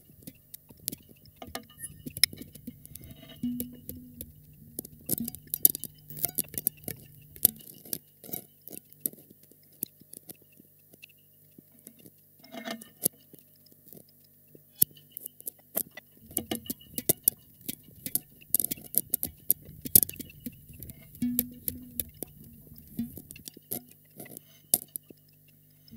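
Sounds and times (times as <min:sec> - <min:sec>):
low steady hum: 0:00.0 - 0:25.9
small taps clicks and rattles: 0:00.0 - 0:25.9.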